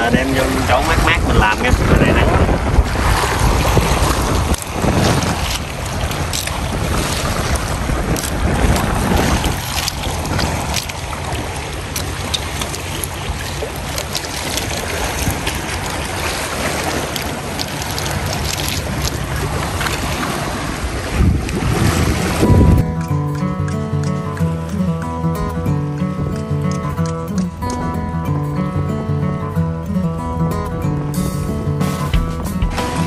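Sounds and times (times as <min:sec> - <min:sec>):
water washing and splashing: 0:00.0 - 0:28.1, 0:31.9 - 0:33.0
boat motor running: 0:00.0 - 0:33.0
wind buffeting microphone: 0:00.0 - 0:33.0.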